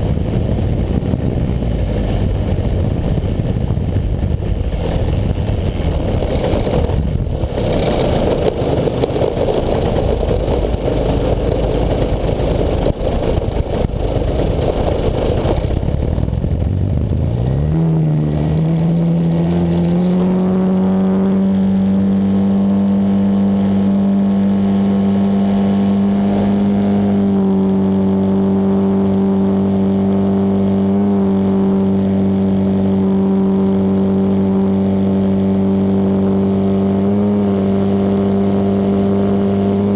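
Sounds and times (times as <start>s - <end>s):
model plane engine drone: 0.0s - 39.9s
rough rushing wind noise: 0.0s - 39.9s.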